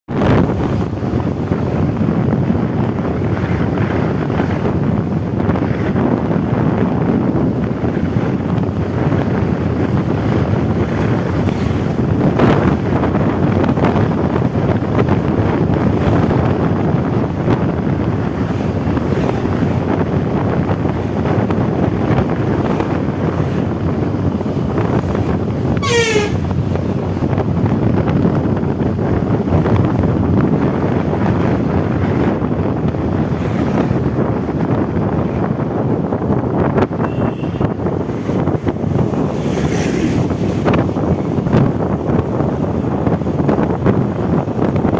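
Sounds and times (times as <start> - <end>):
road and engine noise: 0.0 - 44.9
wind buffeting microphone: 0.1 - 44.9.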